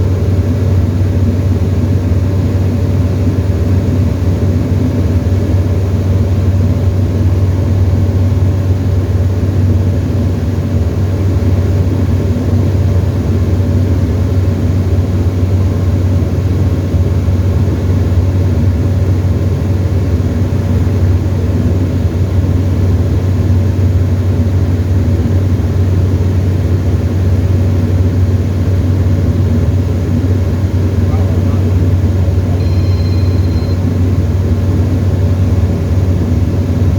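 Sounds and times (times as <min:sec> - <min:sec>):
light aircraft engine drone: 0:00.0 - 0:36.9.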